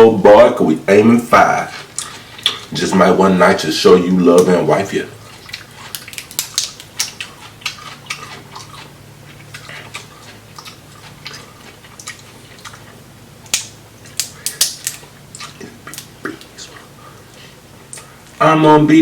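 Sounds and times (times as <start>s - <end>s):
wet chewing and smacking: 1.4s - 2.8s, 4.4s - 18.4s.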